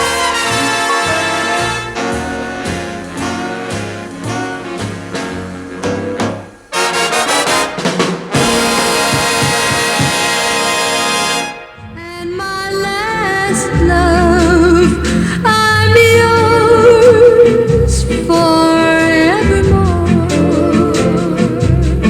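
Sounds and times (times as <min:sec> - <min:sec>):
brass swing music: 0:00.0 - 0:12.0, 0:13.5 - 0:22.0.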